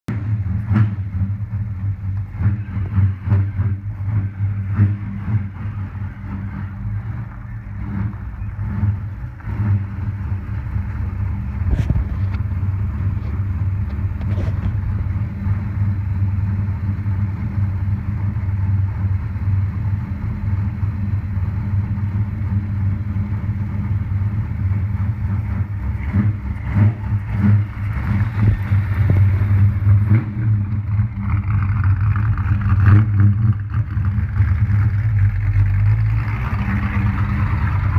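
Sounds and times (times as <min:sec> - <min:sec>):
car engine rumbling low: 0:00.1 - 0:37.9.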